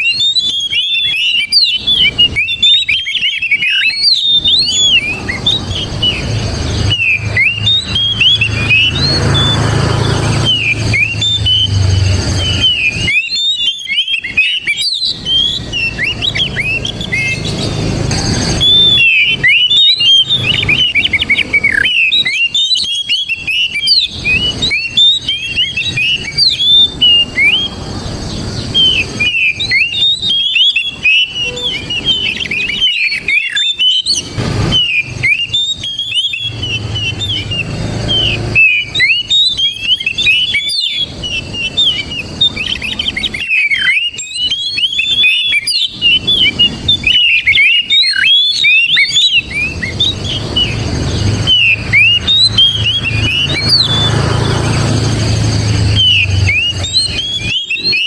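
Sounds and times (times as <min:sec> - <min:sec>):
bird singing whistles and chirps: 0:00.0 - 0:58.0.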